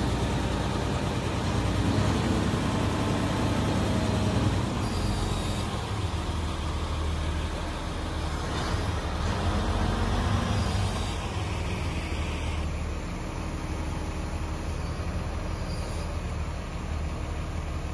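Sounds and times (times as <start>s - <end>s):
diesel engine droning: 0.0s - 17.9s.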